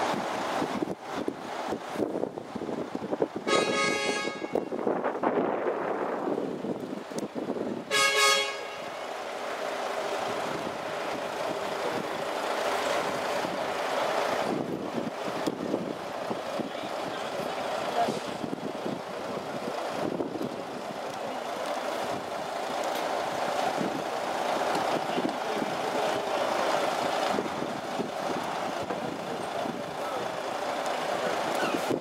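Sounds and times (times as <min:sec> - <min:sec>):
truck diesel engine running: 0:00.0 - 0:32.0.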